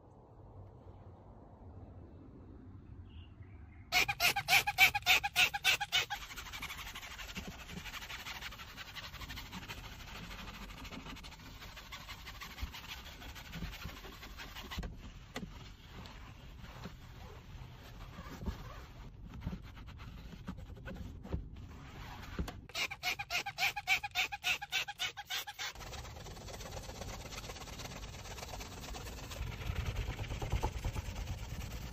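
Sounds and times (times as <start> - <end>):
brush bristles scrubbing: 3.9 - 20.6, 22.0 - 31.9
brush squeaking on plastic: 3.9 - 31.9.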